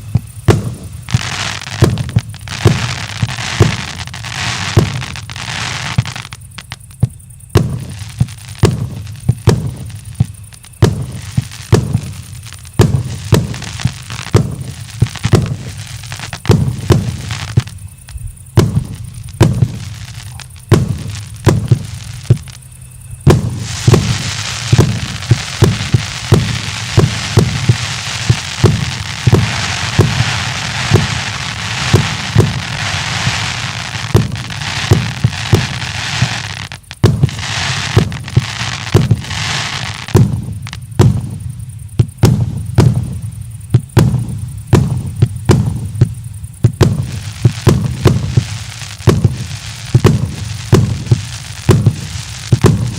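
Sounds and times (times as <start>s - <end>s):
fireworks booming: 0.0s - 52.9s
fireworks crackling: 0.0s - 52.9s.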